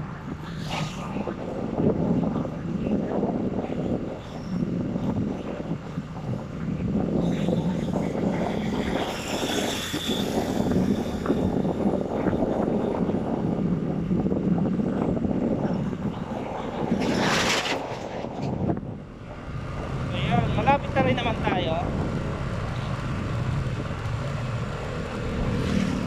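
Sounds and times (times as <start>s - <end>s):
vehicle driving on road: 0.0s - 26.0s.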